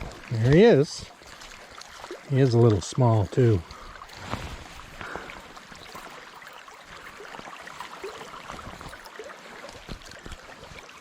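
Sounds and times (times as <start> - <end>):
brook running over stones: 0.0 - 11.0
water splashes and drips: 0.0 - 11.0.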